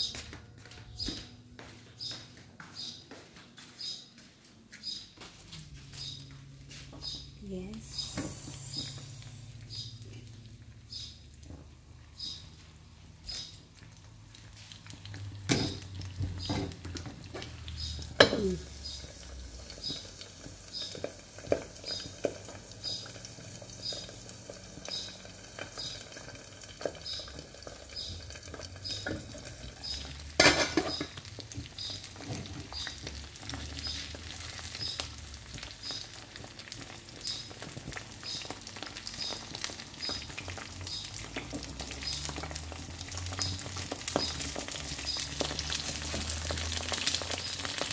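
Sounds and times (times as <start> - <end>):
eggs sizzling in a pan: 7.0 - 47.9.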